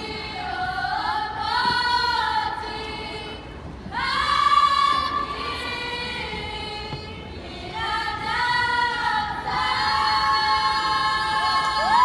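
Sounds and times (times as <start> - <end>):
girls singing long held notes: 0.0 - 12.0.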